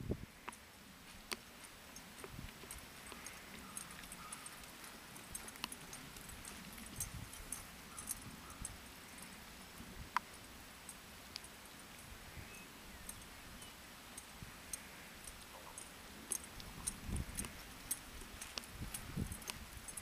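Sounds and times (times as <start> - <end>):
tack clicking and jingling: 0.4 - 12.1, 14.1 - 20.0.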